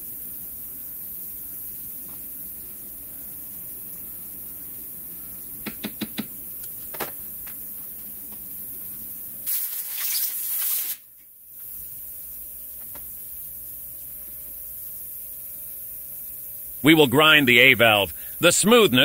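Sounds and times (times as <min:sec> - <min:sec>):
pressurised spray hissing: 0:00.0 - 0:19.0.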